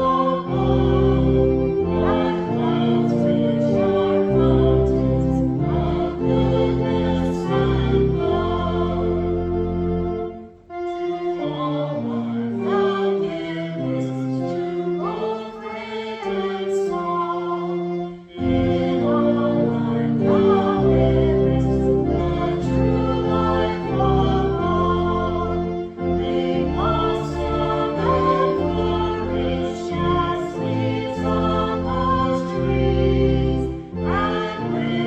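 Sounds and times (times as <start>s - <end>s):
congregation singing a hymn: 0.0s - 35.0s
organ chords: 0.0s - 35.0s.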